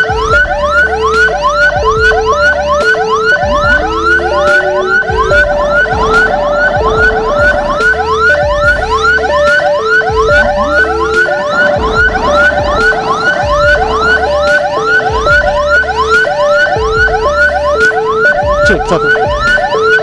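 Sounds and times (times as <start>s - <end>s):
siren rising chirps: 0.0s - 20.0s
two-tone siren: 0.0s - 20.0s.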